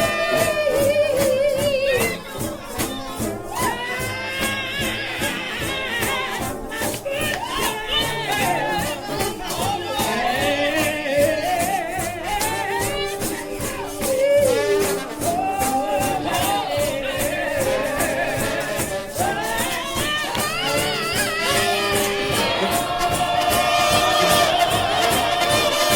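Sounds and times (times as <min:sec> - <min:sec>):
shaking percussion beat: 0:00.0 - 0:25.9
up-tempo gospel music: 0:00.0 - 0:25.9.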